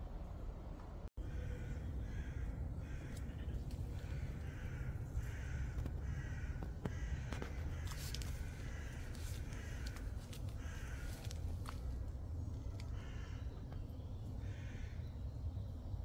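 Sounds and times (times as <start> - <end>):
steady low rumble: 0.0 - 16.0
harsh bird calls: 1.2 - 15.8.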